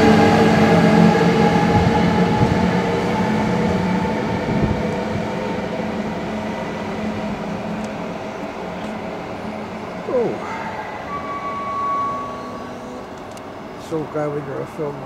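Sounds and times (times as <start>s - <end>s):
electric train hum: 0.0s - 15.0s
train wheel rumble: 0.0s - 15.0s.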